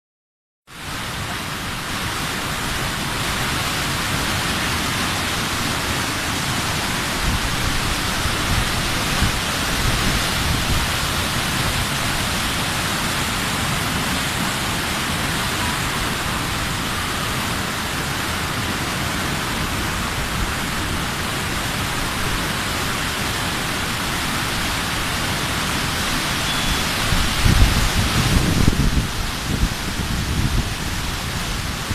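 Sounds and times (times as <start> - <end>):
river water rushing: 0.7 - 31.9.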